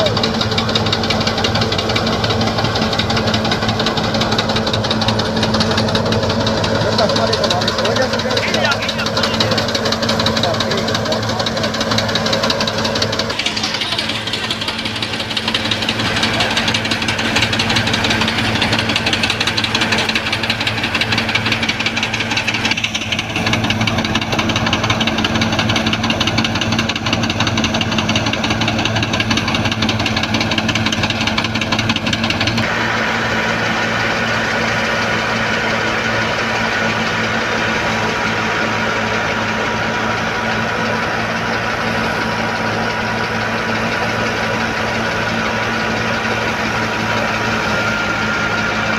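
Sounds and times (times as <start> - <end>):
thresher machine drone: 0.0 - 48.9.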